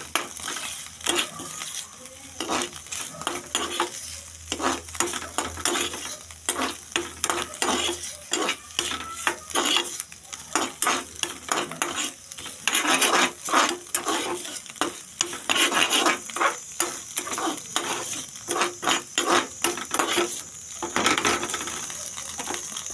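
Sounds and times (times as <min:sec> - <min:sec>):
metal spatula scraping pan: 0:00.0 - 0:22.8
food sizzling: 0:00.0 - 0:22.9.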